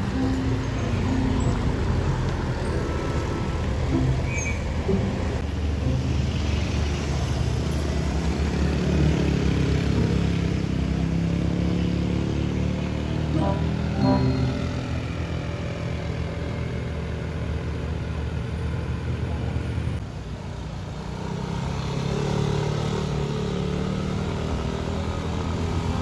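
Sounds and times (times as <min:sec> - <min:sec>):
scooter and car engines climbing: 0:00.0 - 0:26.0
traffic noise: 0:00.0 - 0:26.0.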